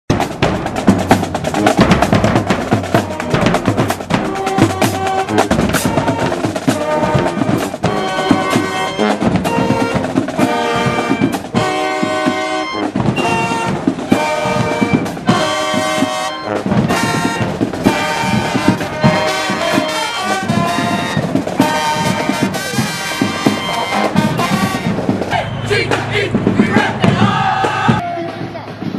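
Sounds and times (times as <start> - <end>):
brass section playing: 0.1 - 28.0
marching drum-line beats: 0.1 - 28.9.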